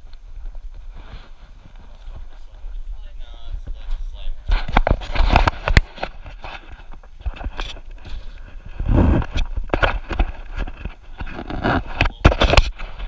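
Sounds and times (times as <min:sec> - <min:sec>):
action camera rubbing and knocking: 0:00.0 - 0:02.9, 0:03.5 - 0:13.0.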